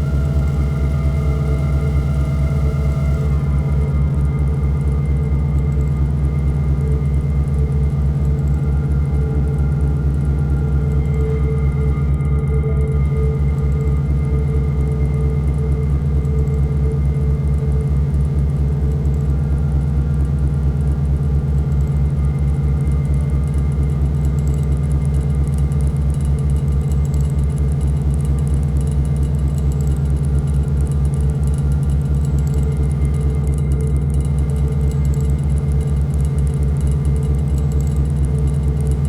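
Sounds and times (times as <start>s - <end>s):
dark synthesizer drone: 0.0s - 39.0s.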